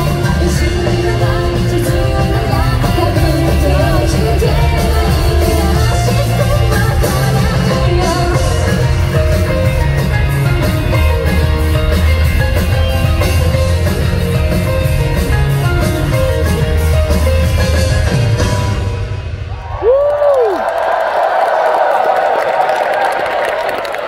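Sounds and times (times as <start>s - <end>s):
electric guitar: 0.0s - 19.4s
bass guitar: 0.0s - 20.0s
drums beating: 0.0s - 21.2s.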